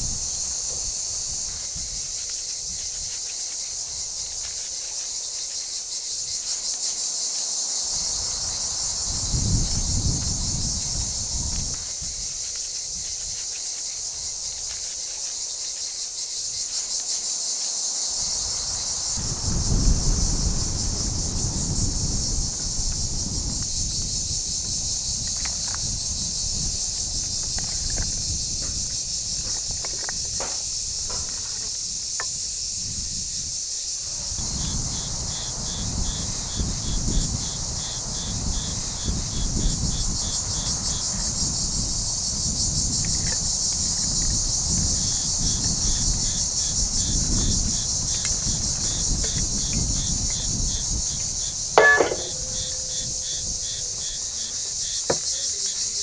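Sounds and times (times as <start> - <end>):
fast pulsing insect chirp: 0.0 - 56.0
high-pitched insect chorus: 0.0 - 56.0.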